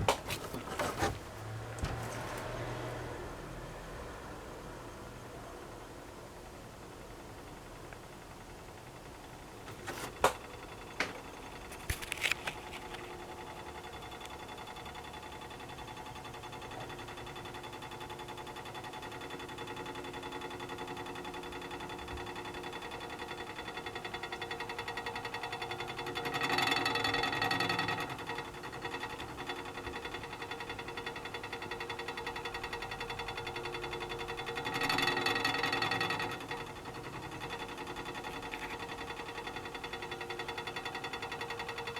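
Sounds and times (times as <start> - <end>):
hot water tank rattling and buzzing: 0.0 - 3.7, 6.5 - 41.9.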